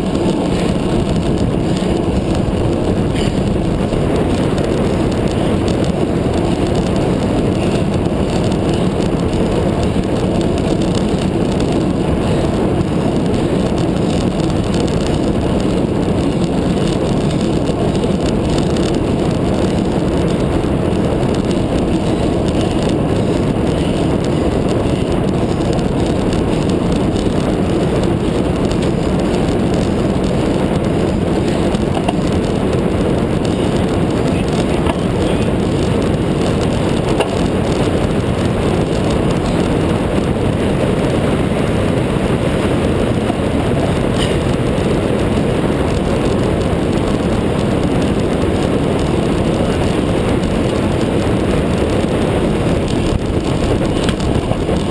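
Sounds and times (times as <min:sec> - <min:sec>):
road noise: 0:00.0 - 0:54.9
wind rushing on microphone: 0:00.0 - 0:54.9.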